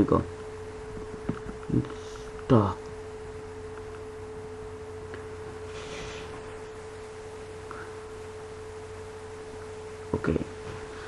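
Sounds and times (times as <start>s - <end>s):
faint low hum: 0.0s - 11.0s
steady single-pitched hum: 0.0s - 11.0s.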